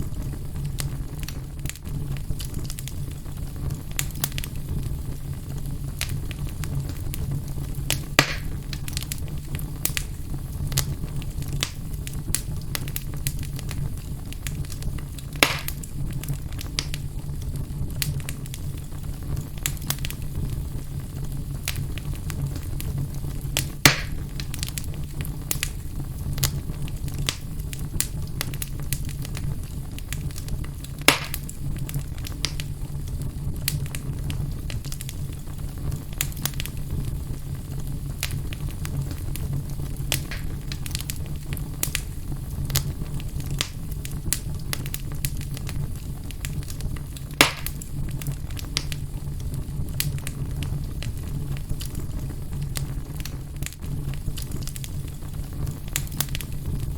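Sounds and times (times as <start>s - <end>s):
fireplace fire crackling: 0.0s - 56.9s
loud fire pops: 0.0s - 56.9s.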